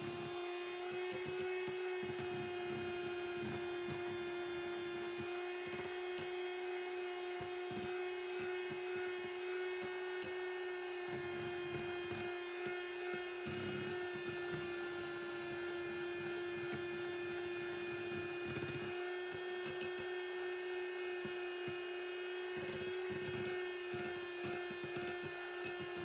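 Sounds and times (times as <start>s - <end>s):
electric hand mixer motor hum: 0.0s - 26.0s.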